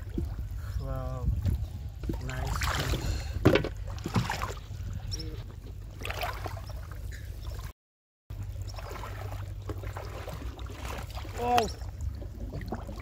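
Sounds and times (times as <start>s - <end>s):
shallow water splashing: 0.0s - 7.7s, 8.3s - 13.0s.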